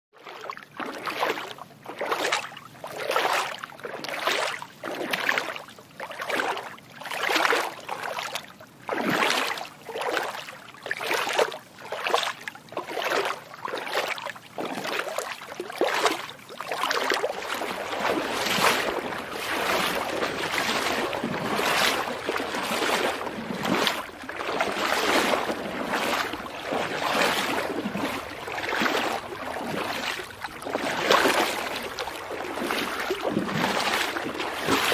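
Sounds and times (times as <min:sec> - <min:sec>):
footsteps splashing in shallow water: 0:00.2 - 0:34.9.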